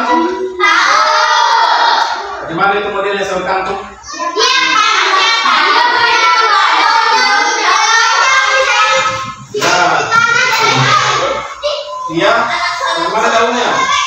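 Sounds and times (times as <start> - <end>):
children's voices together: 0.0 - 2.6, 3.8 - 14.0.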